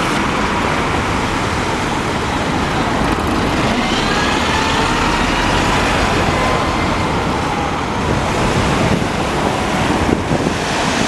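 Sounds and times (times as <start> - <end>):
bus driving past: 0.0 - 11.0
traffic noise: 0.0 - 11.0
tyres hissing on wet road: 0.0 - 11.0
wind rumbling on microphone: 0.0 - 11.0.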